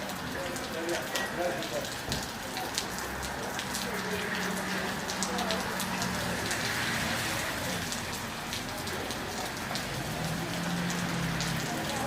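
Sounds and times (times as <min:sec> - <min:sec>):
rain-like patter: 0:00.0 - 0:12.0.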